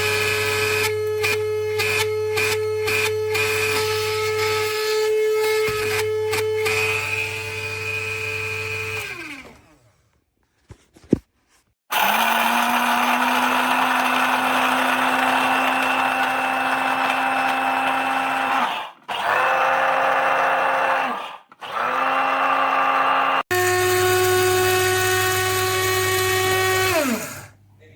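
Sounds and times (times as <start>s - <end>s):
coffee grinder motor whirring: 0.0s - 9.7s, 11.9s - 27.6s.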